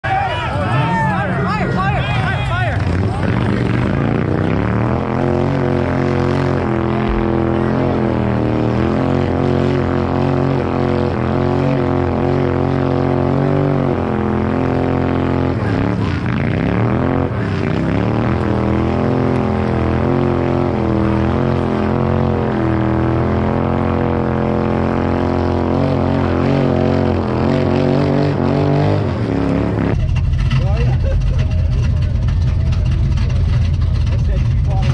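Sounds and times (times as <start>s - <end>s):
car engine idling loudly: 0.1s - 27.8s, 28.4s - 34.9s.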